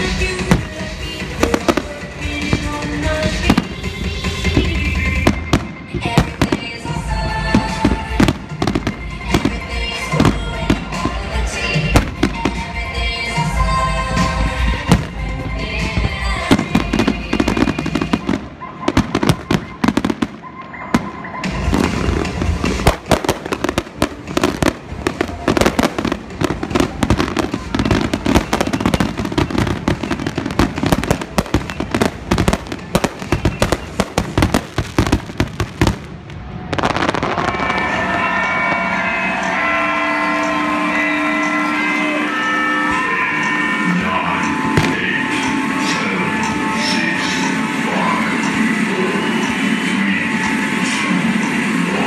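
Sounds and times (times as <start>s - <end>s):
fireworks crackling: 0.0s - 52.0s
music: 0.0s - 52.0s.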